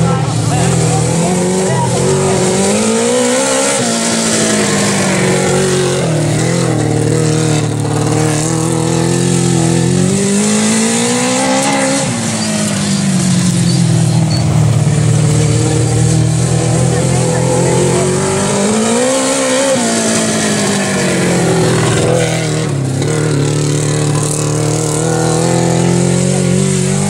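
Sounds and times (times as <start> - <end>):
motorcycle engine running hard: 0.0 - 27.0.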